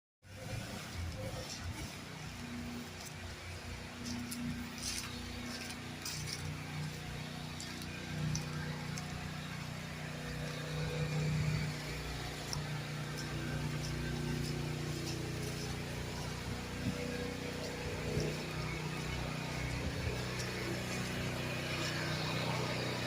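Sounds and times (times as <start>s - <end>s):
engine humming: 0.2s - 23.0s.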